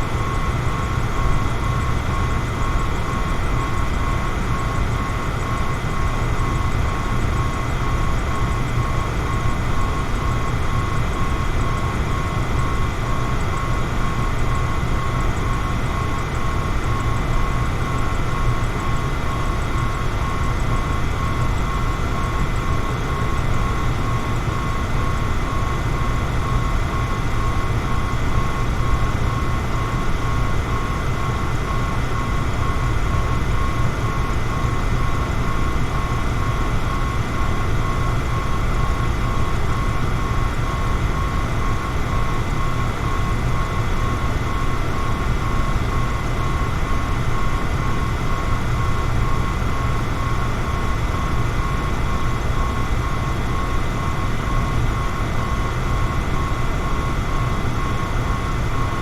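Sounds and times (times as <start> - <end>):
electric fan whirring: 0.0 - 59.0.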